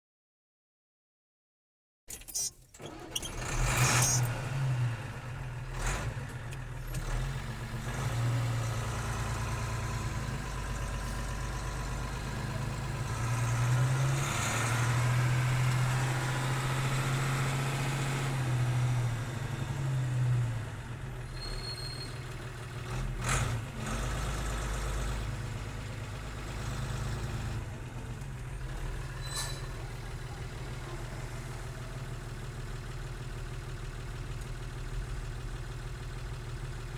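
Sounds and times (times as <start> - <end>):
diesel truck engine running: 2.1 - 36.9.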